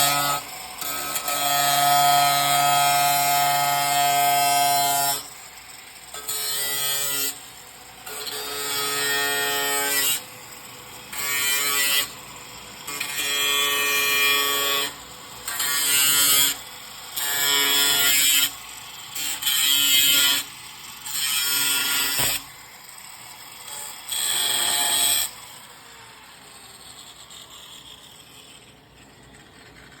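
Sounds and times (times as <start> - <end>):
power tool whining: 0.0 - 29.9.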